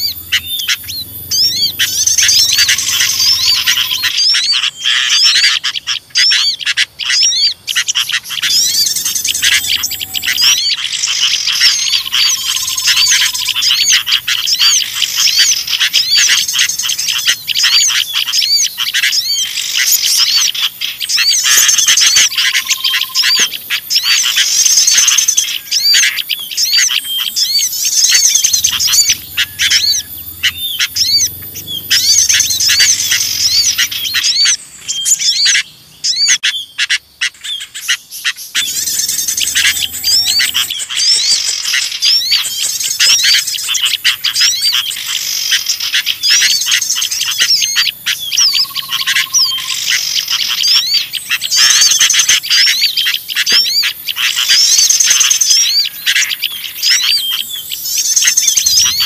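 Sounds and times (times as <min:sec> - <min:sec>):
bulbuls calling: 0:00.0 - 0:59.0
songbirds chirping and twittering: 0:00.0 - 0:59.0.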